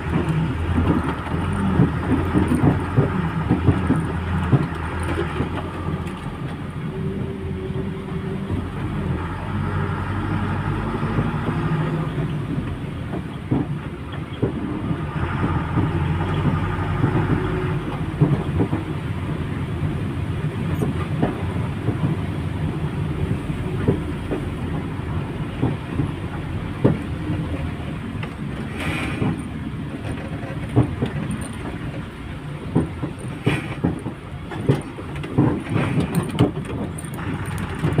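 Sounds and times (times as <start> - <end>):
diesel engine and road rumble: 0.0 - 38.0
rattles and clicks: 0.0 - 38.0.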